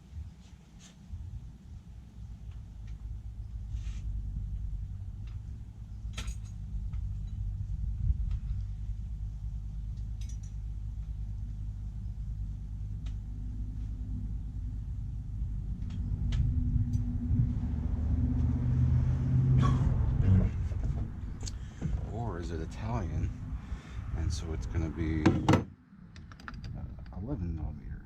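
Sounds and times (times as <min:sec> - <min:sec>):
vehicle engine rumbling: 0:01.1 - 0:28.0.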